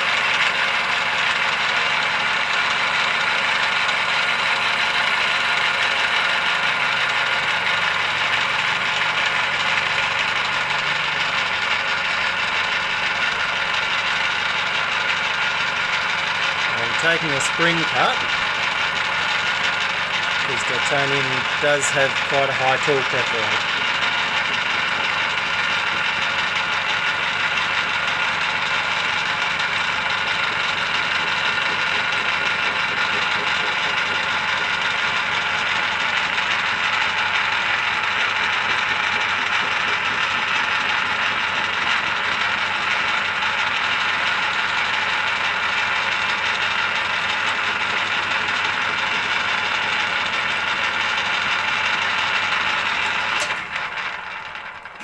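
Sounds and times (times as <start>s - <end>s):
metal lathe running: 0.0s - 55.0s.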